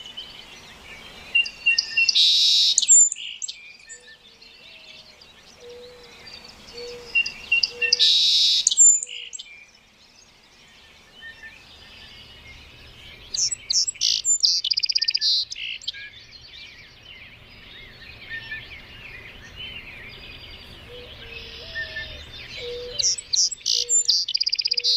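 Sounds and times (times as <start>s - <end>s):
birds chirping: 0.0s - 24.9s
rapid bird trills: 0.7s - 10.4s, 11.2s - 24.9s.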